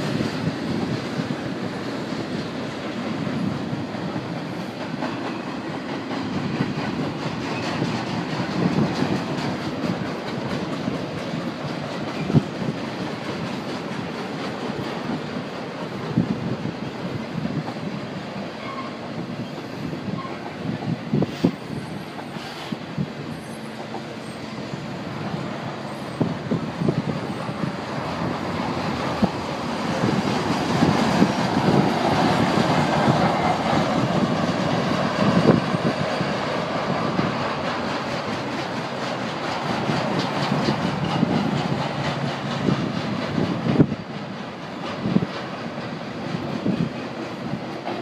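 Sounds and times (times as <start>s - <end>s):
train cars clanking: 0.0s - 48.0s
train wheels rumbling on rail: 0.0s - 48.0s.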